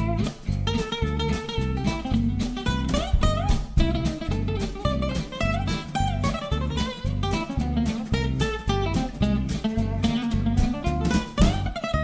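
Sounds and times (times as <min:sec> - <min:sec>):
plucked guitar: 0:00.0 - 0:12.0
steady drum beat: 0:00.0 - 0:12.0.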